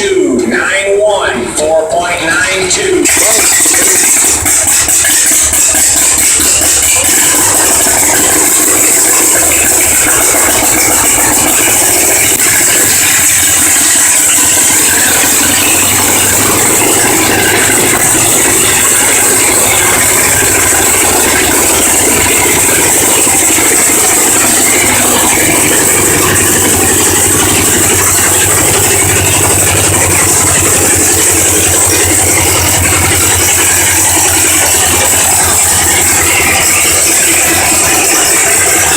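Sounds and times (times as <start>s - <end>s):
tractor engine running: 0.0s - 38.9s
low steady drone: 3.1s - 38.9s.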